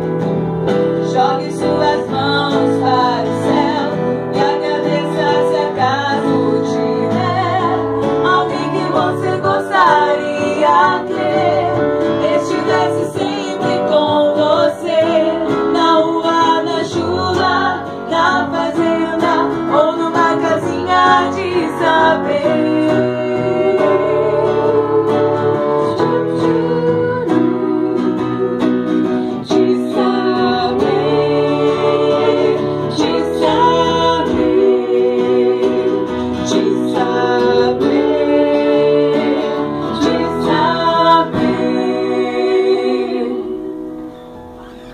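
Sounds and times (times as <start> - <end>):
live band playing: 0.0 - 42.2
women singing in harmony: 0.0 - 44.9.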